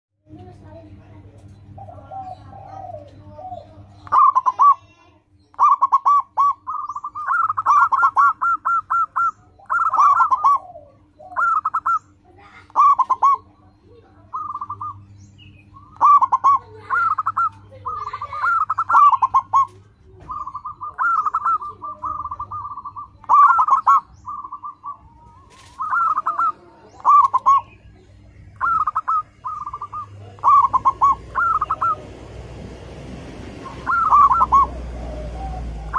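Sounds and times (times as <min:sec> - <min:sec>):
dove cooing: 0:00.4 - 0:35.9.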